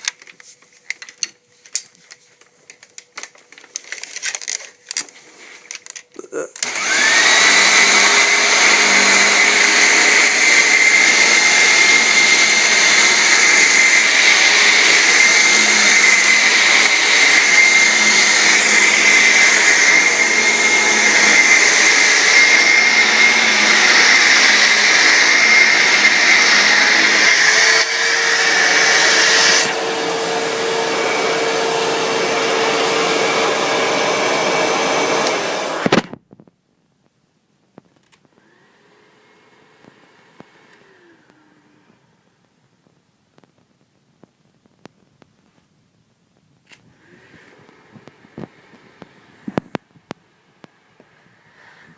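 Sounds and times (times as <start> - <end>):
vacuum cleaner whining: 0.0 - 36.2, 38.2 - 42.4, 46.7 - 51.9.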